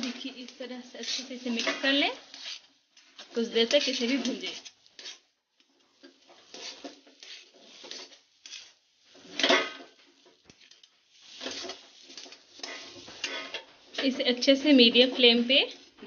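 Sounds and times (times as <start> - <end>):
metal spoon scraping iron pan: 0.0 - 2.6, 3.4 - 5.3, 6.3 - 15.8.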